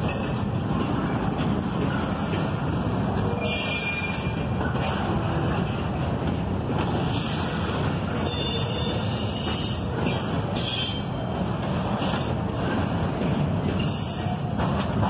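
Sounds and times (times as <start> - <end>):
steel wheels rolling on track: 0.0 - 15.0.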